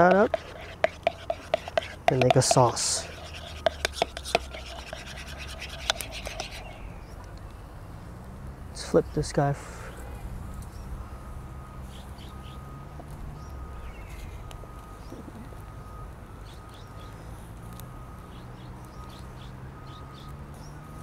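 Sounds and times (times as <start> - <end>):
birds chirping: 0.0 - 7.7, 8.8 - 17.5, 18.2 - 21.0.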